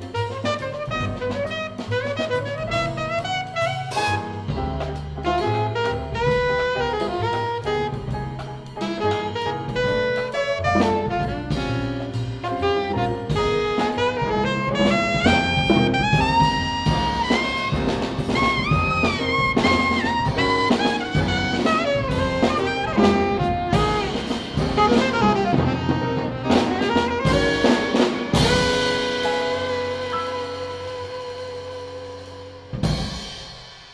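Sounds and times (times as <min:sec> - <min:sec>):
upright bass: 0:00.0 - 0:33.2
alto saxophone: 0:00.0 - 0:33.4
drum kit: 0:00.0 - 0:33.9
piano: 0:00.0 - 0:33.9.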